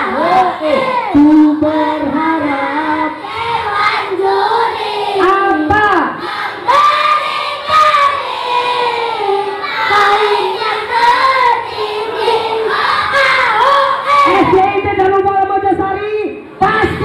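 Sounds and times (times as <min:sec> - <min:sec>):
children singing a chant: 0:00.0 - 0:05.6, 0:06.2 - 0:14.6.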